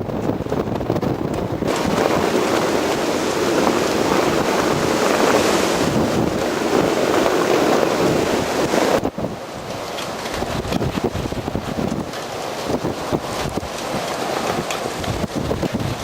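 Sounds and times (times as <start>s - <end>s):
gale wind buffeting microphone: 0.0s - 16.0s.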